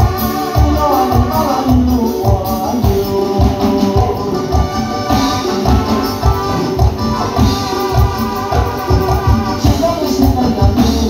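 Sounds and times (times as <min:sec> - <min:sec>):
keyboards: 0:00.0 - 0:11.0
live band through loudspeakers: 0:00.0 - 0:11.0.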